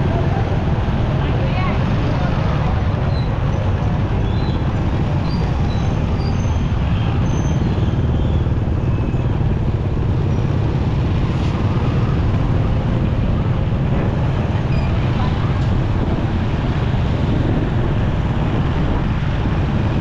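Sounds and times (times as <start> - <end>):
motorcycle engine and road rumble: 0.0 - 20.0.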